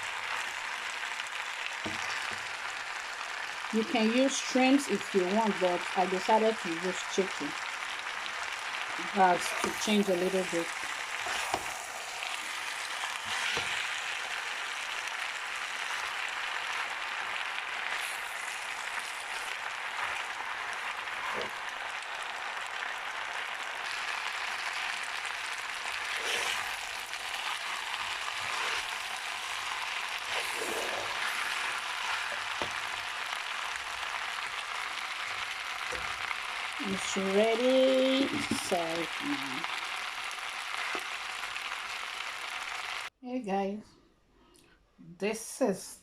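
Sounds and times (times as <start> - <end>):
food sizzling in a wok: 0.0 - 43.1.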